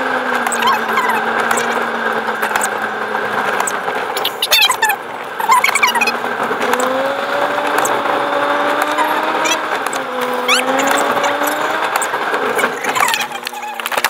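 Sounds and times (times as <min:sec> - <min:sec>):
car engine and tyre noise: 0:00.0 - 0:14.0
short high squeaks and clicks: 0:00.4 - 0:02.8, 0:03.5 - 0:07.0, 0:07.7 - 0:08.0, 0:08.8 - 0:14.0.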